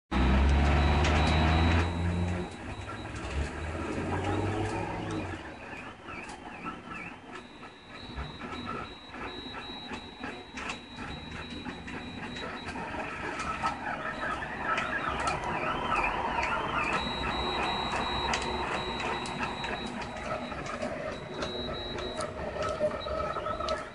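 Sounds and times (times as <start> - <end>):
stepper motors whining: 0.1 - 23.9.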